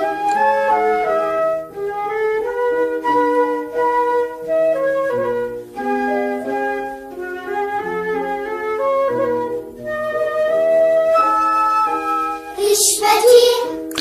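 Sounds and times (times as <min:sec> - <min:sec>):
flute-like melody: 0:00.0 - 0:13.7.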